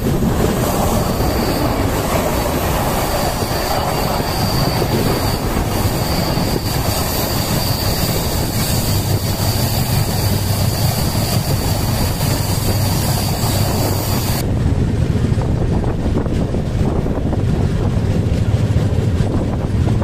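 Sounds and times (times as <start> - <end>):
train rumbling at speed: 0.0 - 20.0
wind noise: 0.0 - 20.0.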